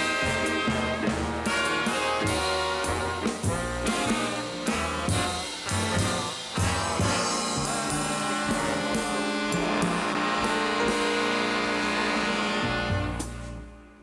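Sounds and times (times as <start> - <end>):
brass and saxophones: 0.0 - 14.0
drum kit and cymbals: 0.0 - 14.0.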